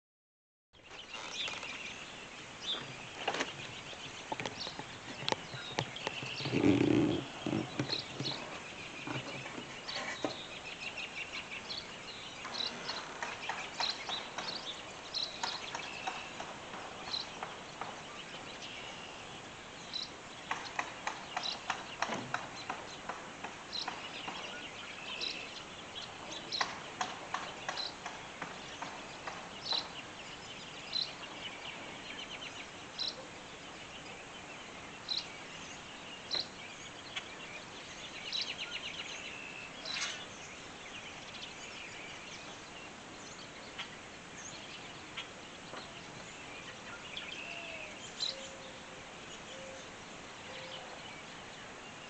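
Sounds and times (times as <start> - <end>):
birds chirping: 0.8 - 52.0.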